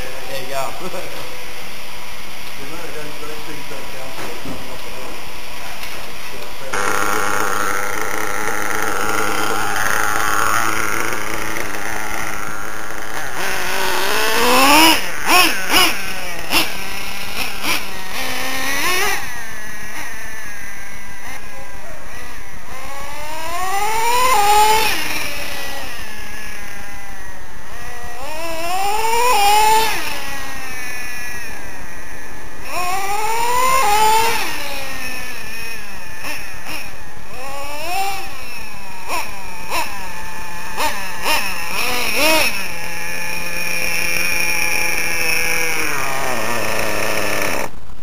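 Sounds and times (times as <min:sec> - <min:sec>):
small nitro engine revving: 0:00.0 - 0:48.0.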